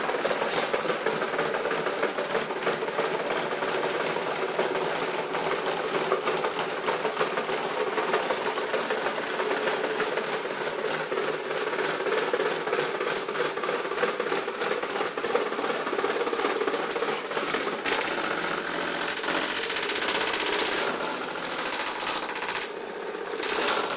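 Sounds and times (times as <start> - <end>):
fan running with rattle: 0.0 - 23.9.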